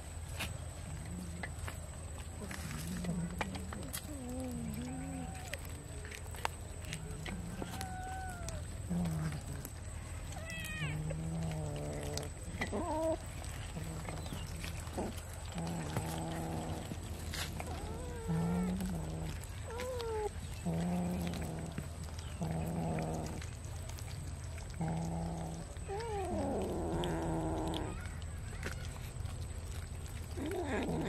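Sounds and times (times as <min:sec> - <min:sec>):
cats growling and yowling: 0:00.4 - 0:31.0.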